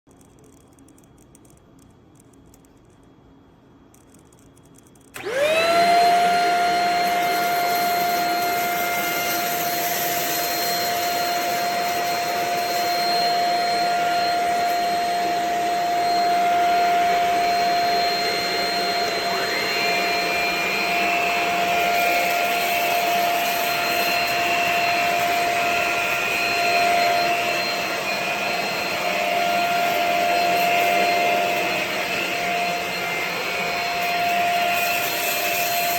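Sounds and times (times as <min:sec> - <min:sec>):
vacuum cleaner motor whine: 0:05.1 - 0:35.9.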